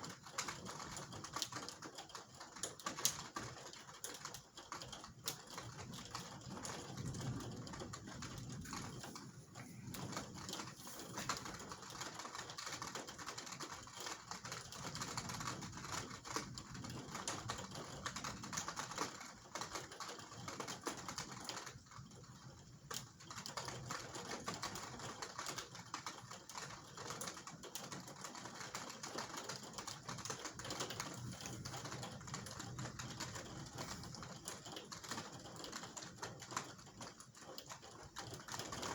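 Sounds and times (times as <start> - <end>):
rain on a hard surface: 0.0 - 38.9.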